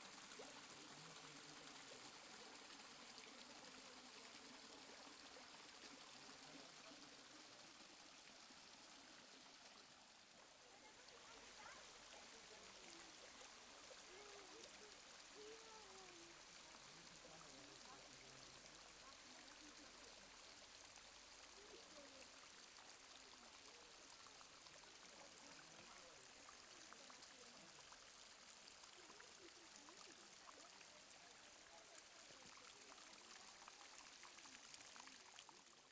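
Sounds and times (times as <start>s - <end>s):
faint rush of river water: 0.0s - 35.9s.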